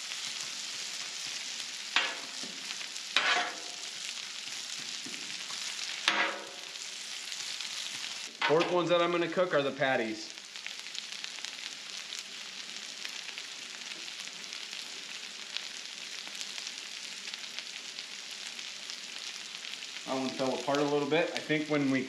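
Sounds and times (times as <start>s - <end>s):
food sizzling on griddle: 0.0s - 22.0s.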